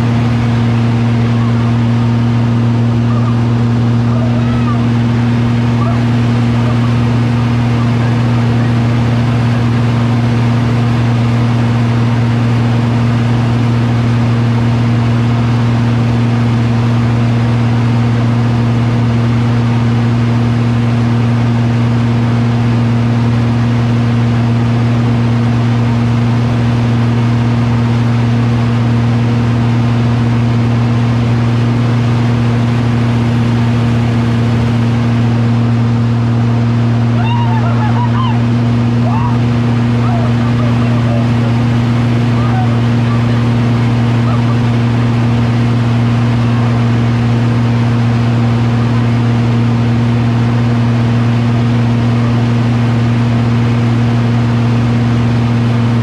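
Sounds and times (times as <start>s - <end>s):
engine droning steadily: 0.0s - 56.0s.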